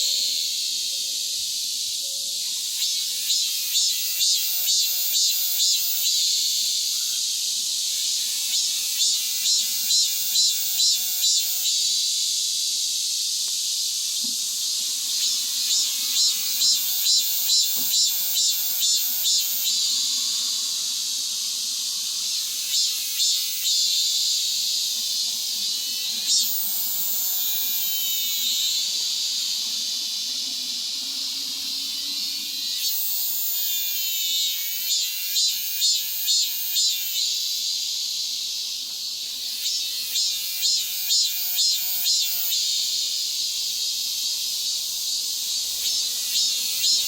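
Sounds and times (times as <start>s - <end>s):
cicadas buzzing: 0.0s - 47.0s.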